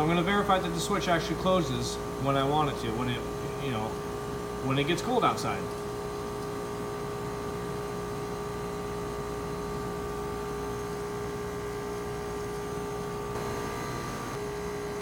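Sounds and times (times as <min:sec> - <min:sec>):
compressor humming: 0:00.0 - 0:15.0.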